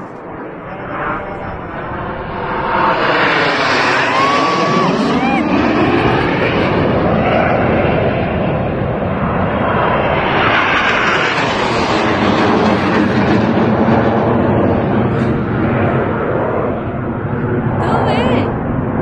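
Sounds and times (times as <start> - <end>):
jets flying overhead: 0.0 - 19.0.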